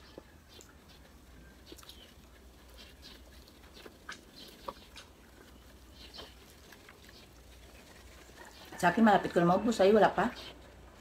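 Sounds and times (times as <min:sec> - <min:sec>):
chewing and eating sounds: 0:00.0 - 0:09.3.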